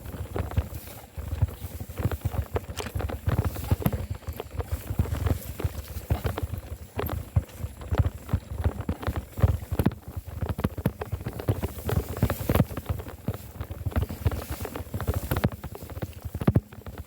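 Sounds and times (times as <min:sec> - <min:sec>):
bike knocks and rattles: 0:00.0 - 0:17.0.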